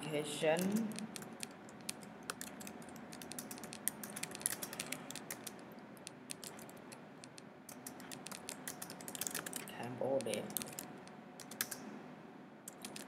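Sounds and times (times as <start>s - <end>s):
keyboard key clicks: 0.6s - 11.8s, 12.7s - 13.0s.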